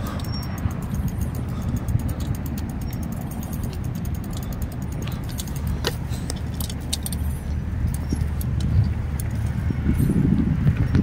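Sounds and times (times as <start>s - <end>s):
bicycle rattles and clicks: 0.0s - 11.0s
wind rumbling on microphone: 0.0s - 11.0s.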